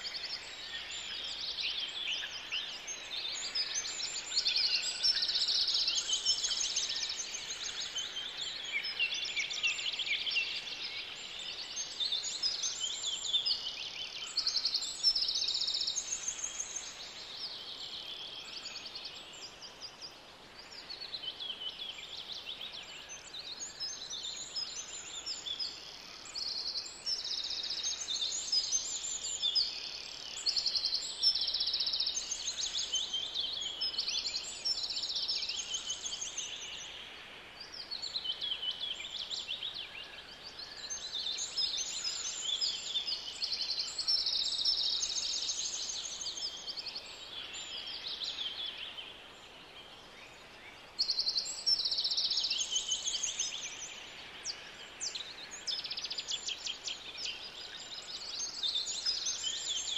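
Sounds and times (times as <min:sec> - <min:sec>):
songbirds singing chorus: 0:00.0 - 0:59.9.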